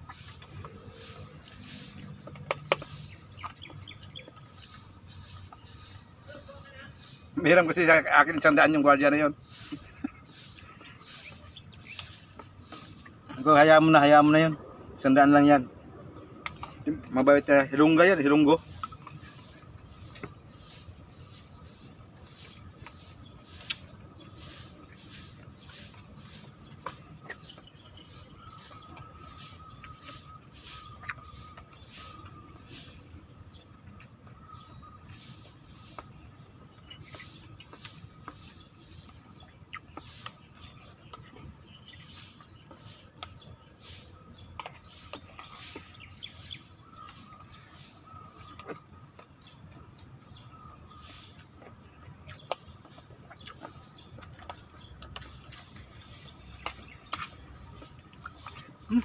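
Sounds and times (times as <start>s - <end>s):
small birds chirping: 0.0s - 59.0s
steady high-pitched hiss: 0.0s - 59.0s.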